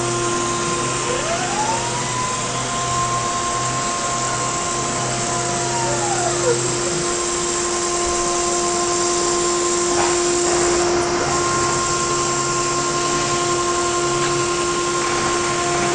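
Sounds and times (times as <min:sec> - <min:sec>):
motor hum: 0:00.0 - 0:15.9
router spindle whine: 0:00.0 - 0:15.9.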